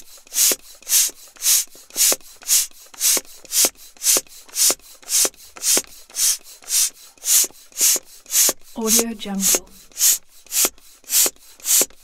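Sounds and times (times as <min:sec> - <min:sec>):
bicycle pump strokes: 0:00.0 - 0:12.0.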